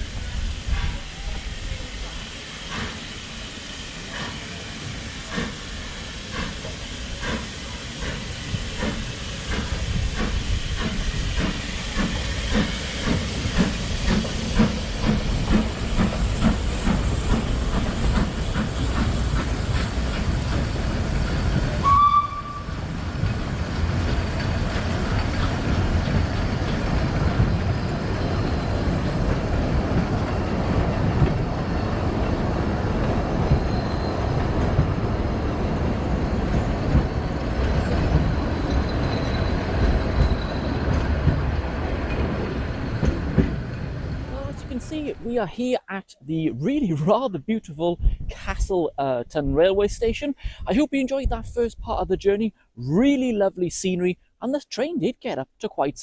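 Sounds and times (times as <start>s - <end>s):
steam train running: 0.0s - 45.8s.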